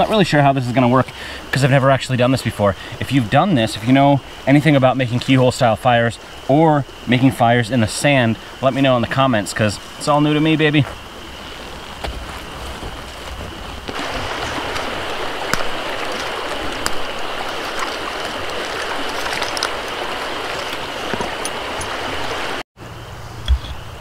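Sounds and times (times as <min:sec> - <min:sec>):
river water rushing: 0:02.4 - 0:22.6.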